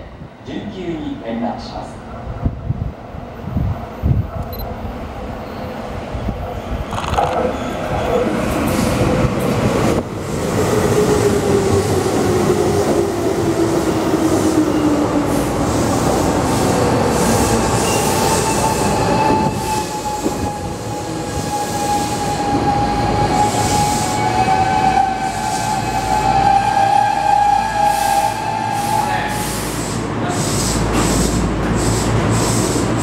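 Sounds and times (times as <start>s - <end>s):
train pulling in over rails: 0.0s - 33.0s.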